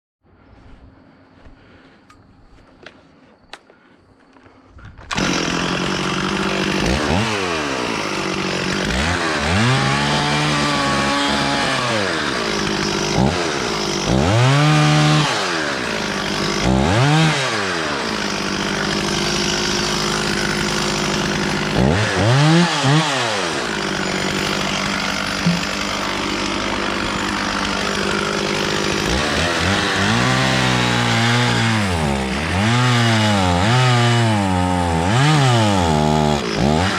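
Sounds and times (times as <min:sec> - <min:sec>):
chainsaw revving and sawing wood: 0:05.0 - 0:36.9.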